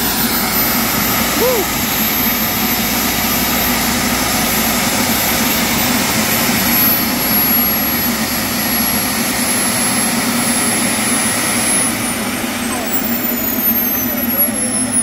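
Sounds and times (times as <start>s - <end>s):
jet turbine engine whistling: 0.0s - 15.0s.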